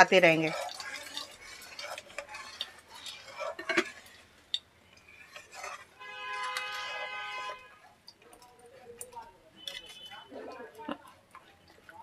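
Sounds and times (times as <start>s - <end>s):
liquid swishing: 0.0s - 12.0s
metal spoon scraping a pan: 0.0s - 12.0s.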